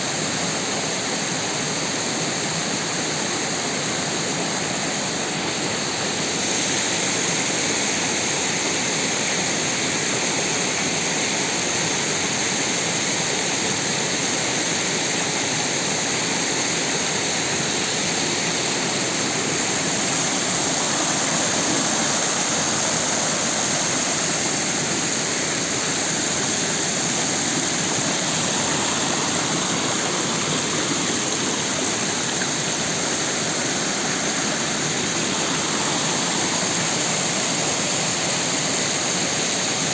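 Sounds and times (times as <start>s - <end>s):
creek rushing and splashing: 0.0s - 39.9s.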